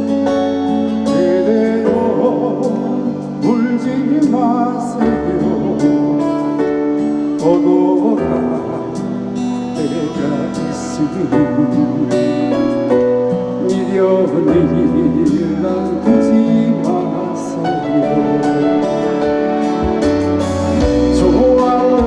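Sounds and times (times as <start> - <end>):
slow guitar music: 0.0 - 22.0.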